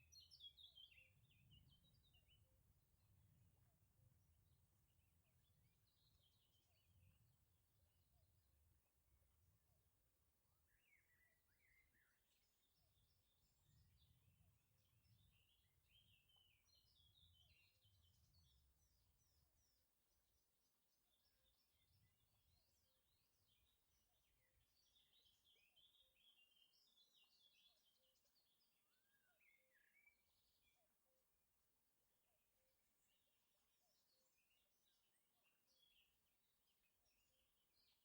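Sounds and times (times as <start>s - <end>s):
faint birdsong chirps and trills: 0.0s - 38.0s.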